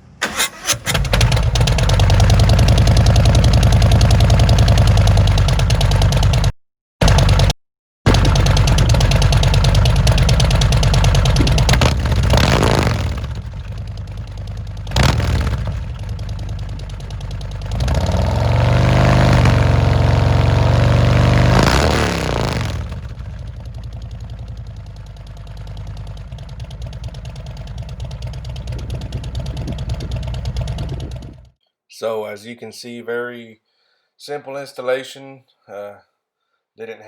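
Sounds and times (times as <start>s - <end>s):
motorcycle engine idling and revving: 0.0s - 31.6s.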